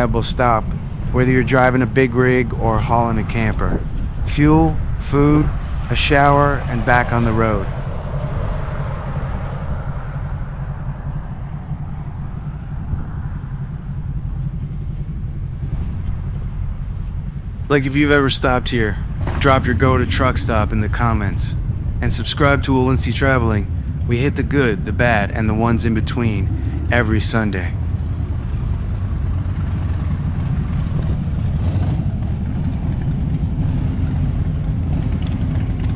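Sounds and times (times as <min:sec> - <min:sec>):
engine idling: 0:00.0 - 0:35.9
motor vehicle rumble: 0:00.0 - 0:35.9.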